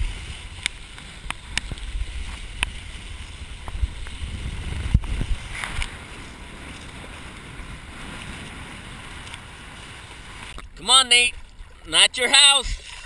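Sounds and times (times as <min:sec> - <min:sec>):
wind rumbling on microphone: 0:00.0 - 0:11.9
water sloshing and splashing: 0:00.0 - 0:13.0.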